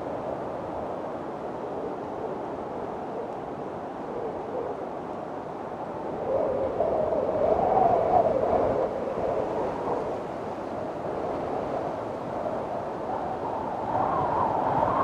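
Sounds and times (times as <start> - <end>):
strong gusting wind whistling: 0.0 - 15.0.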